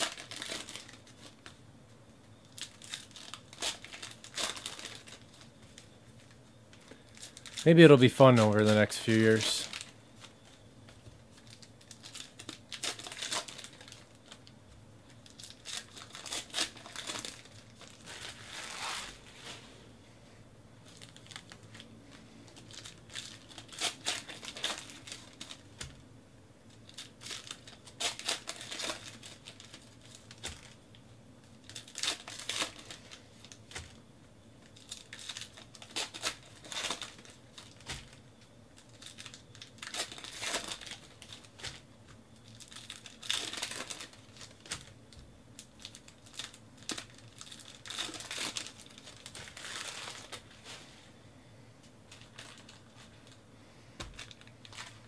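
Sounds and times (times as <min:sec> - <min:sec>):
card pack wrappers tearing and crinkling: 0:00.0 - 0:01.6, 0:02.4 - 0:10.6, 0:11.3 - 0:19.4, 0:20.8 - 0:25.9, 0:26.7 - 0:30.8, 0:31.4 - 0:34.0, 0:34.6 - 0:41.8, 0:42.4 - 0:45.0, 0:45.6 - 0:50.7, 0:52.1 - 0:53.4, 0:54.0 - 0:55.0.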